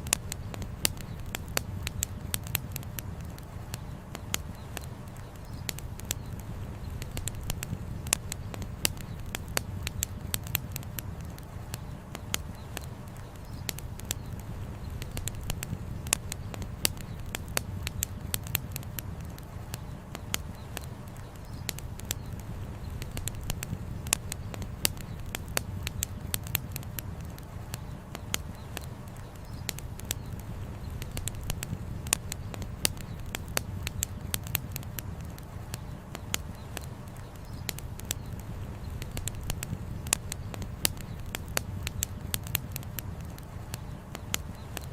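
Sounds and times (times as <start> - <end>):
campfire crackling: 0.0 - 44.9
low rush of fire: 0.0 - 44.9
wood fire popping and snapping: 0.0 - 44.9.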